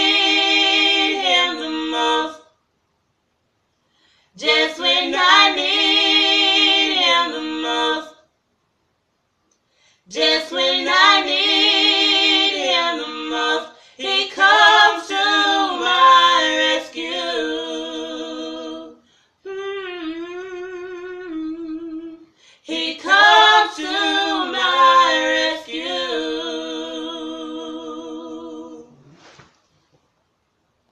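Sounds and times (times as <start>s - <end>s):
solo voice singing with vibrato: 0.0s - 2.5s, 4.4s - 8.2s, 10.1s - 29.1s.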